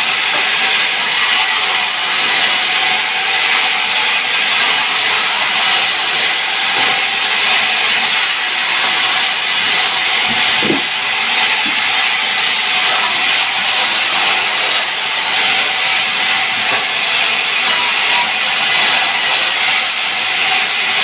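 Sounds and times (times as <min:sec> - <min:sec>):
sawmill saw cutting log: 0:00.0 - 0:21.0.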